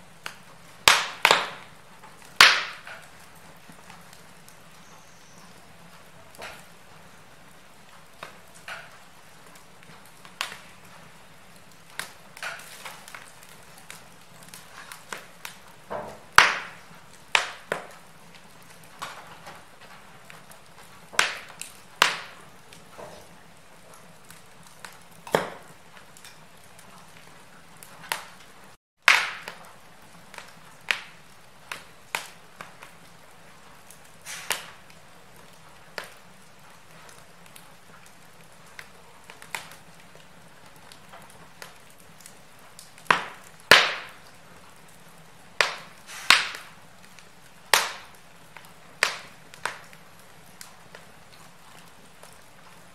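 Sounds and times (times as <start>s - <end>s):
faint steady hiss: 0.0s - 52.9s
wood fire crackling and popping: 0.0s - 52.9s.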